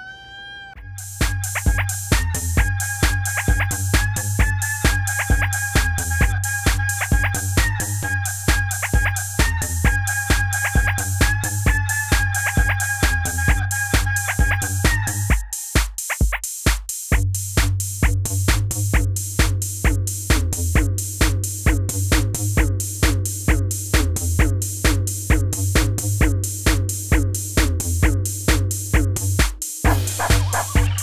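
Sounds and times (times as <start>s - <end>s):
electronic music with drum beat: 0.8s - 31.0s.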